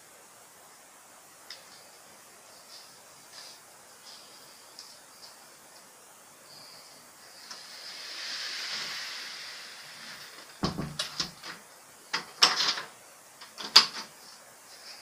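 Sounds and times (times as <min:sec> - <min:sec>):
plumbing hiss: 0:00.0 - 0:15.0.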